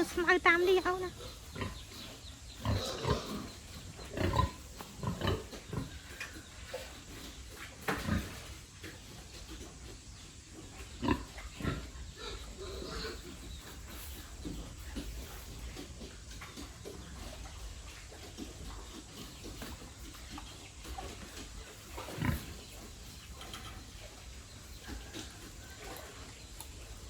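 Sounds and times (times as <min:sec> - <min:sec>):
pigs grunting: 0:00.0 - 0:10.0, 0:10.6 - 0:27.0.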